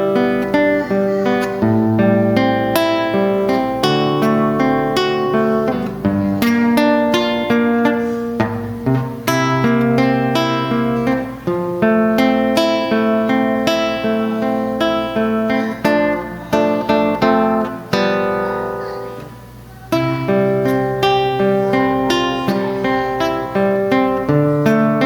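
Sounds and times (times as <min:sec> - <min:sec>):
acoustic guitar chords: 0:00.0 - 0:25.0.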